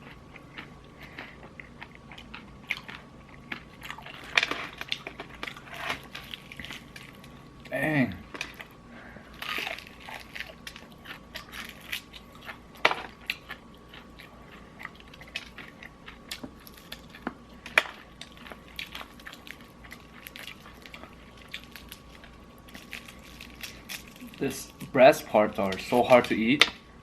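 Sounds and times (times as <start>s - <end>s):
crunching fried chicken: 0.0s - 26.8s.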